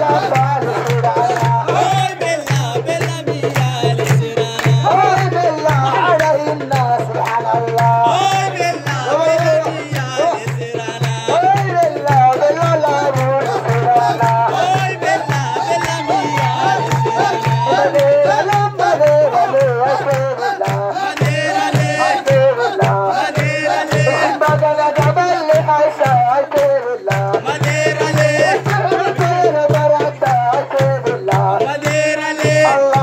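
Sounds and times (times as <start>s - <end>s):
people singing: 0.0s - 33.0s
rhythmic hand-clapping: 0.0s - 33.0s
steady drum beat: 0.0s - 33.0s.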